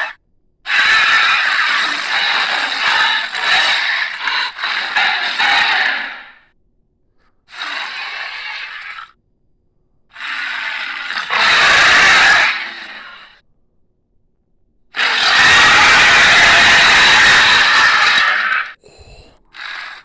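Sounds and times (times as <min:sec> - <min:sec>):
rasping creature call: 0:00.0 - 0:06.4, 0:07.5 - 0:09.2, 0:10.1 - 0:13.4, 0:15.0 - 0:20.0.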